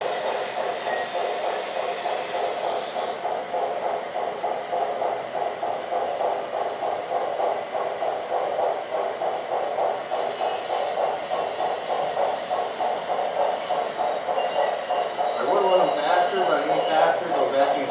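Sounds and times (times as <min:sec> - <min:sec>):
model train clattering: 0:00.6 - 0:17.9.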